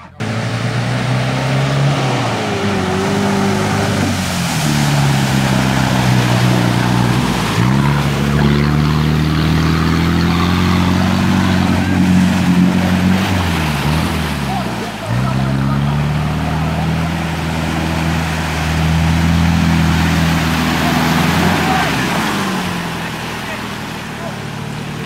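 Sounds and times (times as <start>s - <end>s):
engine revving hard: 0.0s - 25.0s
mud and water splashing: 0.0s - 25.0s.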